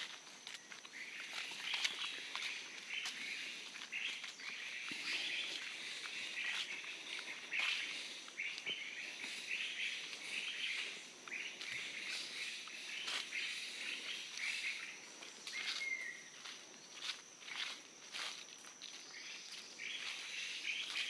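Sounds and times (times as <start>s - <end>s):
footsteps through leaf litter: 0.0s - 21.0s
high insect buzz: 0.0s - 21.0s
bird chirp: 0.6s - 17.7s, 18.9s - 21.0s.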